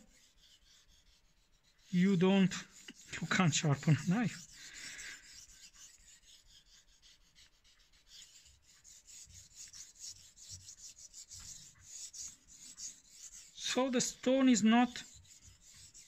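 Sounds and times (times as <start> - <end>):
knife rubbing on whetstone: 0.0 - 16.0.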